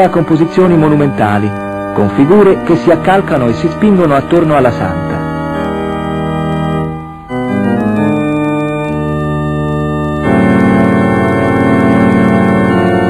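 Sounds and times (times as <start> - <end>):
slow held chords music: 0.0 - 13.0.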